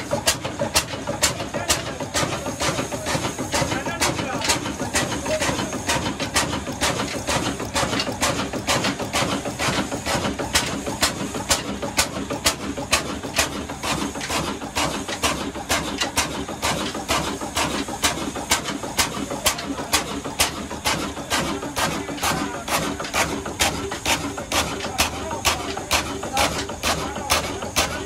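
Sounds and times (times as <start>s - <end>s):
diesel engine clattering: 0.0s - 28.0s.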